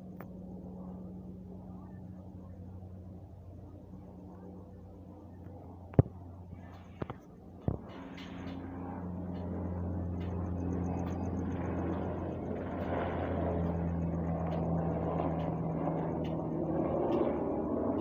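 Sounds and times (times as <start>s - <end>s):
helicopter flying: 0.0s - 18.0s.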